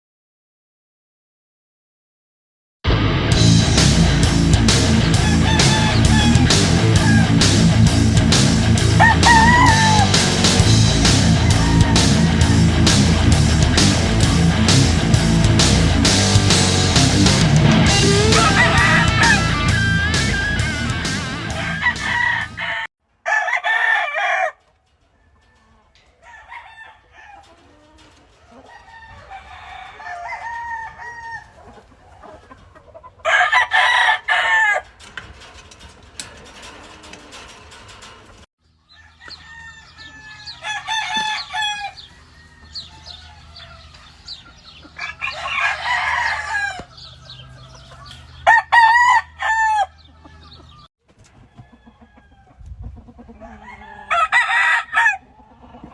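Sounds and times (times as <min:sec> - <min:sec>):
roosters crowing: 0:03.4 - 0:35.5, 0:36.2 - 0:55.9
chickens clucking: 0:03.9 - 0:55.9.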